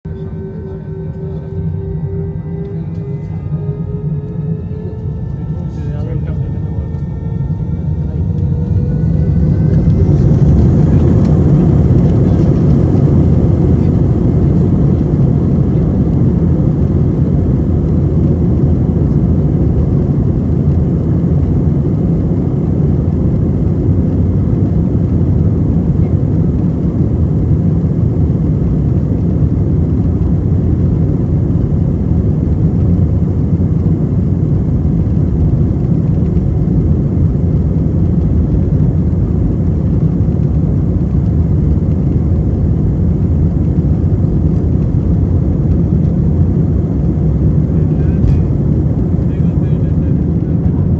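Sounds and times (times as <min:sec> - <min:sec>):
jet engines rumbling: 0:00.0 - 0:50.9.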